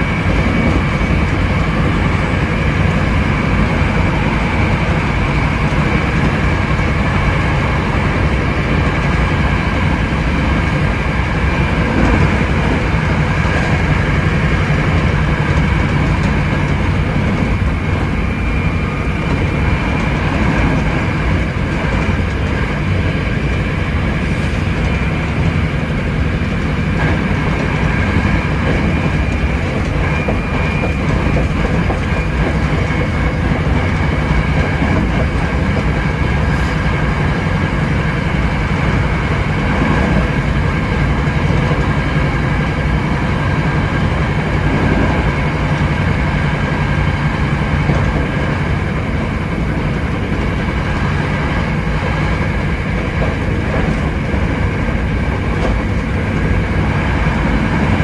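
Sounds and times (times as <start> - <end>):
steady train whine: 0.0 - 58.0
train wheels rumbling on rail: 0.0 - 58.0.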